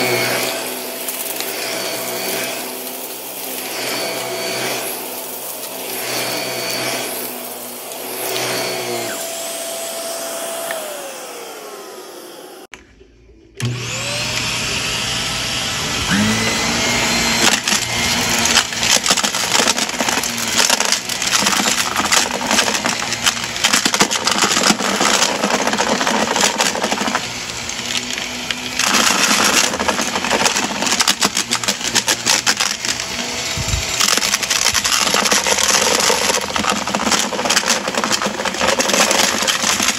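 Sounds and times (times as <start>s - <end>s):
debris rattling up vacuum nozzle: 0.0s - 11.0s, 16.3s - 39.9s
upright vacuum cleaner running: 0.0s - 12.8s, 13.6s - 39.9s.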